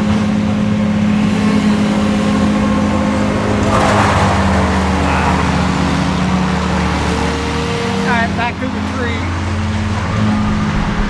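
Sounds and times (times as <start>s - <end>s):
burst of rough noise: 0.0s - 11.0s
tree-cutting machinery engines: 0.0s - 11.0s.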